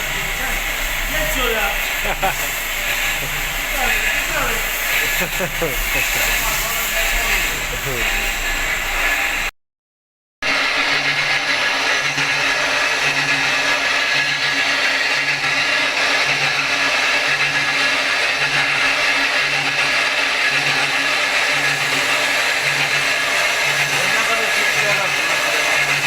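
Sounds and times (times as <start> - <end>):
loud mechanical whirring: 0.0 - 9.5, 10.4 - 26.0.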